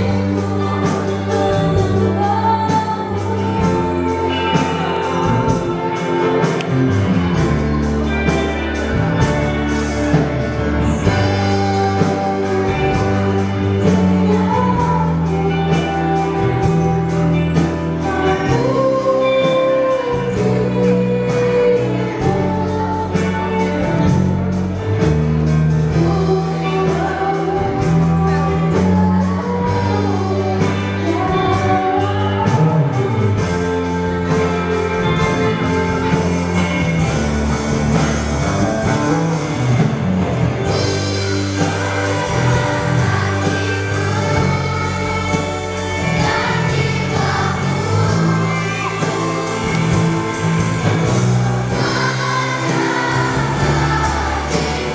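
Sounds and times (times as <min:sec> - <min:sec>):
children's choir singing: 0:00.0 - 0:39.8, 0:40.6 - 0:54.9
instrumental accompaniment with bass: 0:00.0 - 0:54.9.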